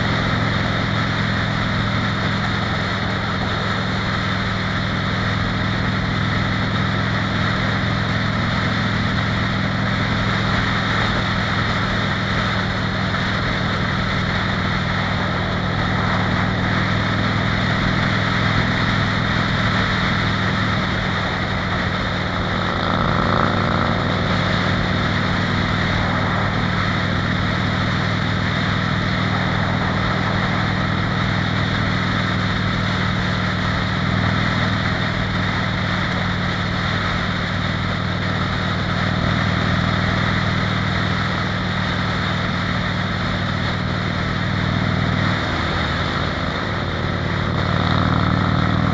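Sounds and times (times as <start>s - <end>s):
motorcycle engine cruising: 0.0s - 48.9s
wind and road noise: 0.0s - 48.9s.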